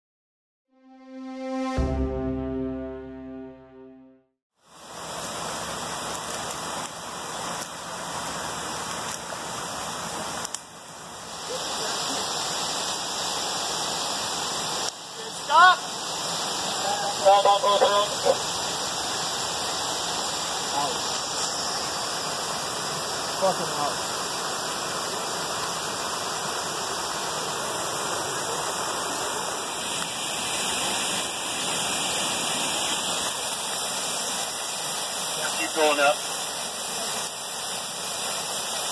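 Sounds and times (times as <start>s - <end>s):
creek water rushing: 4.6s - 38.9s.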